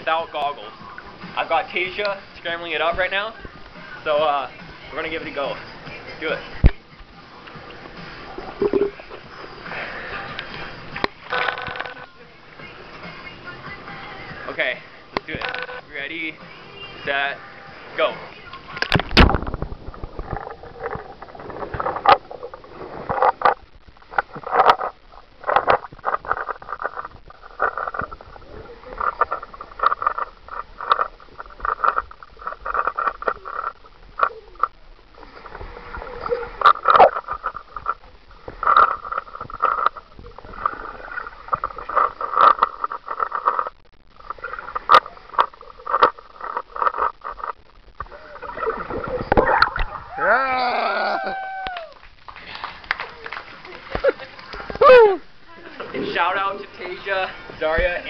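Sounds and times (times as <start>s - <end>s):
pool water sloshing: 0.0s - 15.2s, 16.0s - 51.2s, 52.0s - 58.0s
water splashes: 0.0s - 51.2s, 51.9s - 58.0s.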